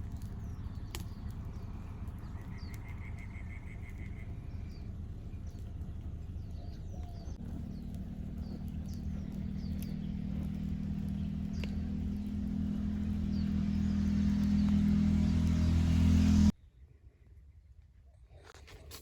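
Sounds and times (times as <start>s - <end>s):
birds chirping: 0.0s - 16.6s
vehicle engine humming: 0.0s - 16.6s.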